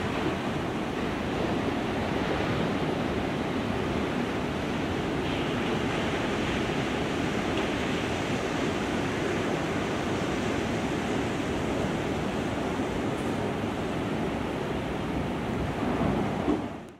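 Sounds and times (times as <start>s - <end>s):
surf washing: 0.0s - 16.9s.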